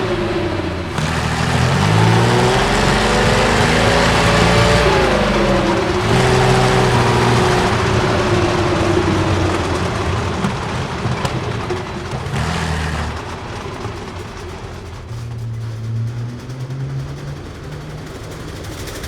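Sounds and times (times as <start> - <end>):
tank engine running under load: 0.0 - 19.0.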